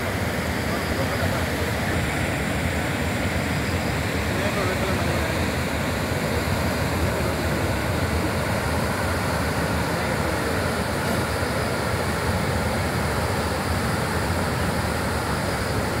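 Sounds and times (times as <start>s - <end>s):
turbulent water rushing: 0.0s - 16.0s.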